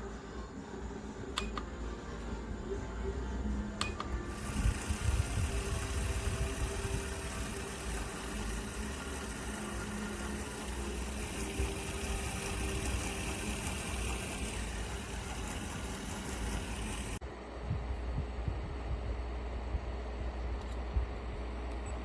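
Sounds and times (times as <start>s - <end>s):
air purifier fan running: 0.0s - 22.0s.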